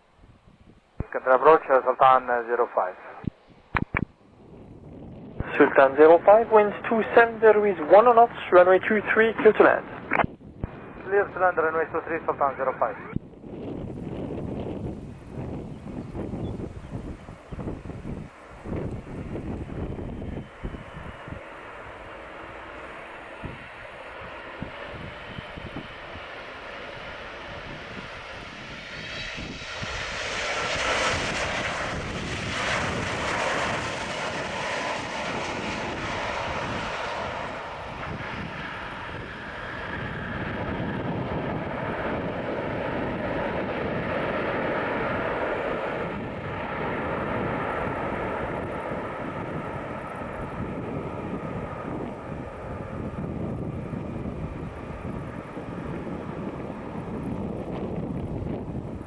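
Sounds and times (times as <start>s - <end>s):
jet airliner landing: 0.0s - 59.0s.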